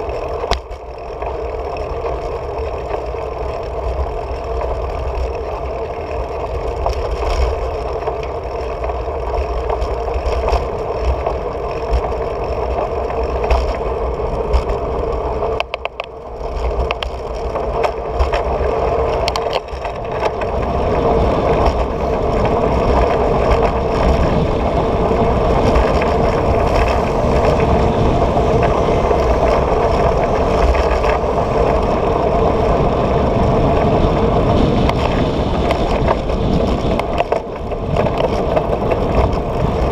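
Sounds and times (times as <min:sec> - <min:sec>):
bicycle tyre rumble on road: 0:00.0 - 0:39.9.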